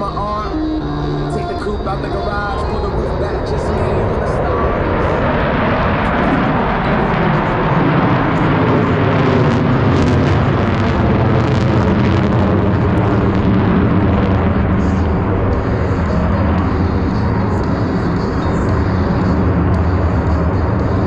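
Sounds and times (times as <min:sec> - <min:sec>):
jet noise: 0:00.0 - 0:21.0.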